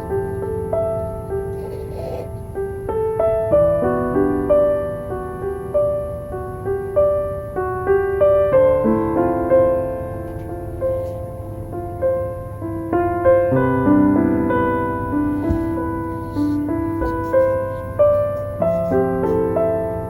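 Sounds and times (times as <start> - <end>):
gentle solo piano music: 0.0 - 20.0.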